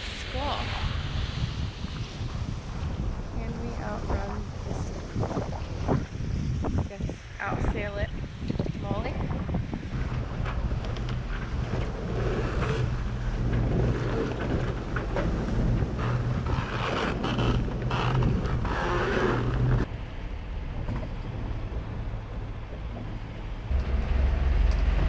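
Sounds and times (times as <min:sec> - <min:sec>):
low rumble: 0:00.0 - 0:25.0
water noise: 0:00.0 - 0:25.0
wind: 0:00.0 - 0:25.0.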